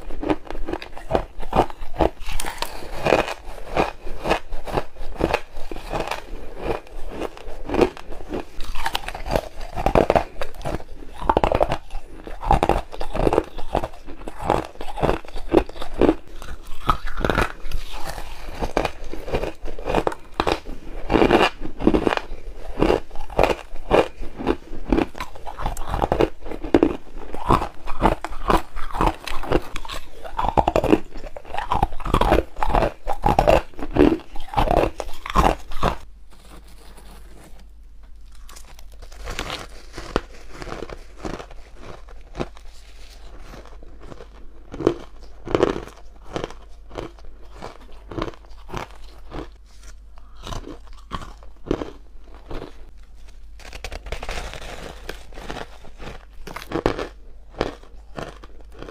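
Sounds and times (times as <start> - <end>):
crushed ice being chewed: 0.0 - 58.9.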